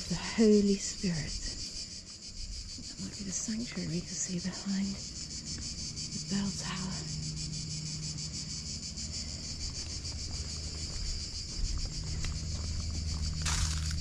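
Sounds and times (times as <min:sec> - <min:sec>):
insect chorus trilling: 0:00.0 - 0:14.0.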